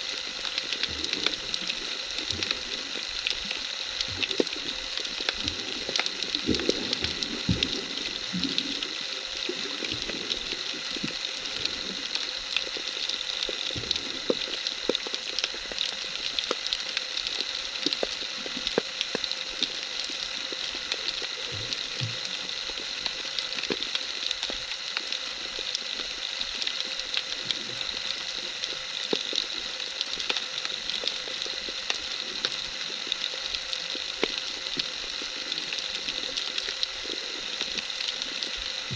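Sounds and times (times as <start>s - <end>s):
small sharp clicks and crackles: 0.0s - 38.9s
underwater hiss: 0.0s - 38.9s.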